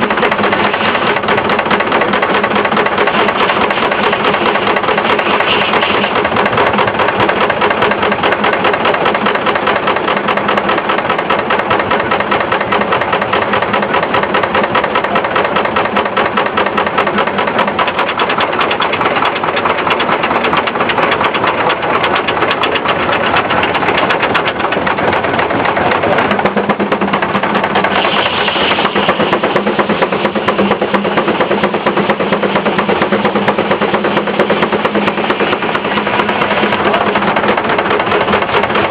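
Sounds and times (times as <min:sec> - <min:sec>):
steam traction engine running: 0:00.0 - 0:38.9.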